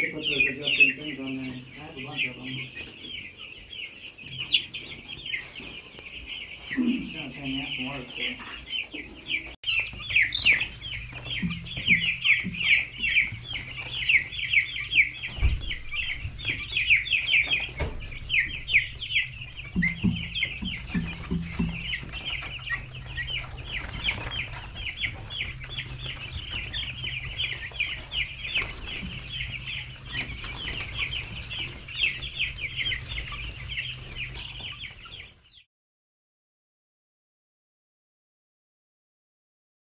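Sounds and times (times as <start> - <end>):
chicks peeping: 0.0 - 35.7.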